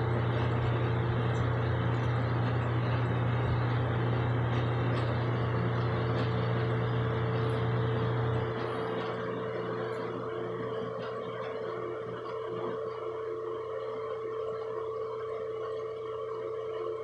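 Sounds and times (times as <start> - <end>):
motor hum with low drone: 0.0 - 17.0.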